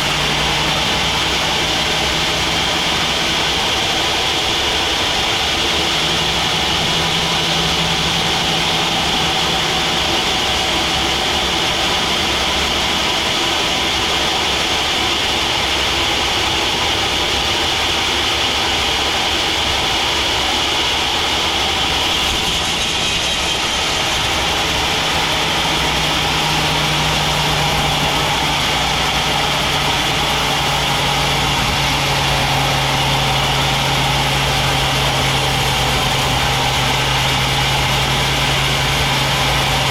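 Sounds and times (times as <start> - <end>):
band sawmill drone: 0.0 - 39.9.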